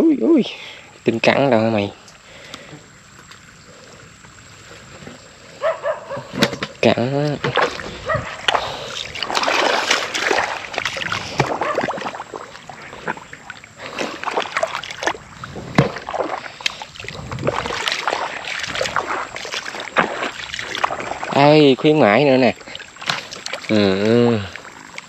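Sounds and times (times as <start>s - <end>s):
footsteps splashing through shallow water: 2.0s - 25.0s.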